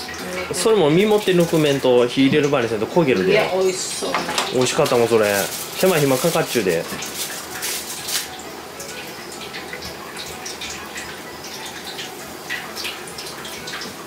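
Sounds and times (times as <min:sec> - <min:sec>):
water running from tap: 0:00.0 - 0:14.0.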